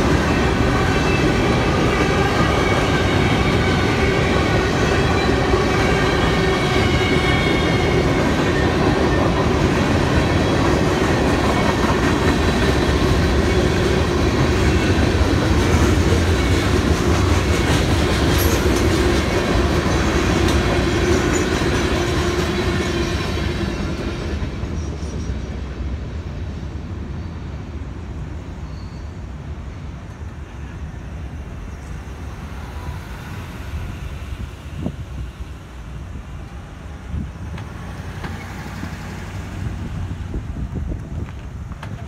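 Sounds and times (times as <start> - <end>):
freight train rolling: 0.0 - 42.0.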